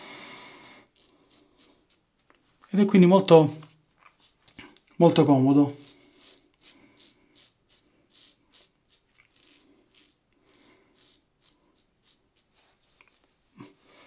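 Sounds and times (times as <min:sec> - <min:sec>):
razor scraping stubble: 0:00.3 - 0:02.8, 0:03.5 - 0:13.8.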